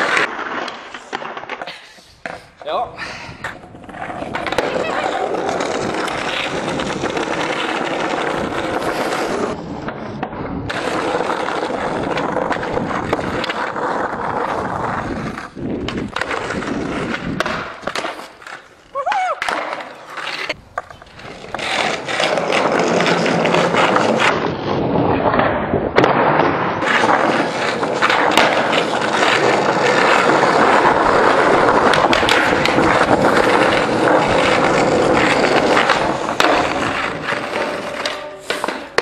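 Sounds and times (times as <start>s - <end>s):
skateboard clacks: 0.0s - 2.8s, 3.4s - 39.0s
skateboard wheels rolling on concrete: 0.0s - 39.0s.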